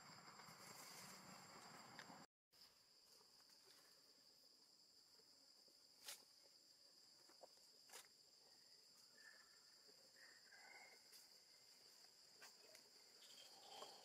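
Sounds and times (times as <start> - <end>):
faint insect drone: 0.0 - 14.0.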